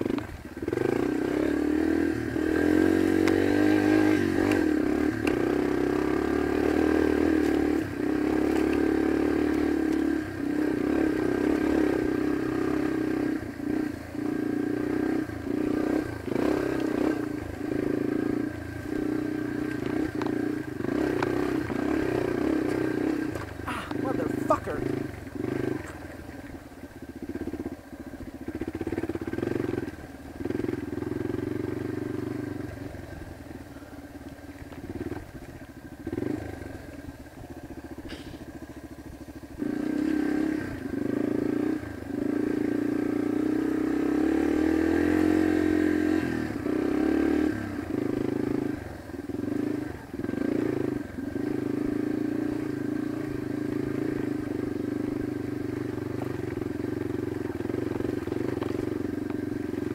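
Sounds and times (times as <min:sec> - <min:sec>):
dirt bike engine revving: 0:00.0 - 0:26.6, 0:27.2 - 0:33.3, 0:36.0 - 0:36.9, 0:39.6 - 0:59.9.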